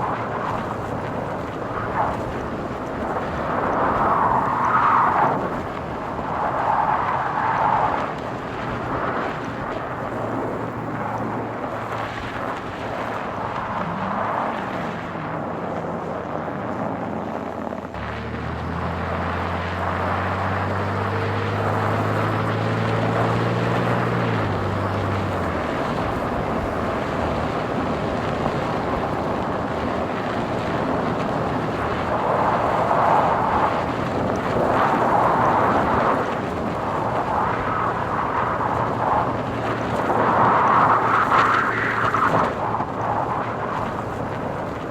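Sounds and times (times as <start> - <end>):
tyre and road noise: 0.0 - 44.9
wind: 0.0 - 44.9
car engine: 0.1 - 44.9.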